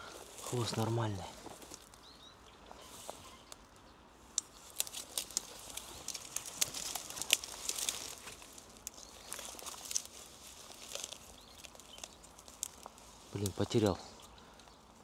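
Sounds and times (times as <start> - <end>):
twigs snapping: 0.1 - 2.0, 3.5 - 15.0.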